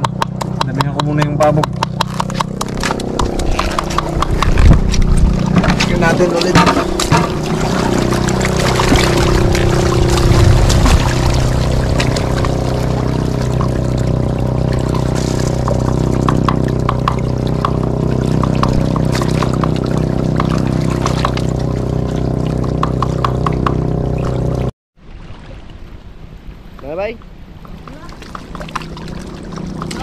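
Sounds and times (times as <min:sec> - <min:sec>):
steady engine hum: 0:00.0 - 0:24.7, 0:27.3 - 0:30.0
water splashing and trickling: 0:01.2 - 0:30.0.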